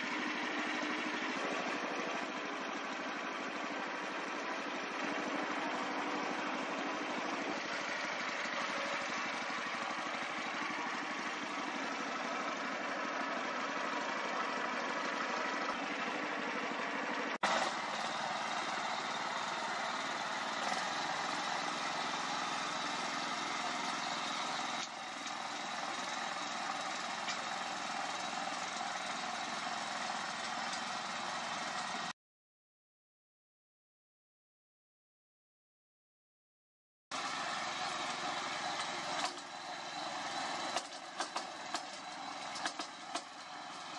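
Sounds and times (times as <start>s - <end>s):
rotary tiller through soil: 0.0s - 32.1s, 37.1s - 43.9s
small petrol engine running: 0.0s - 32.2s, 37.1s - 43.9s.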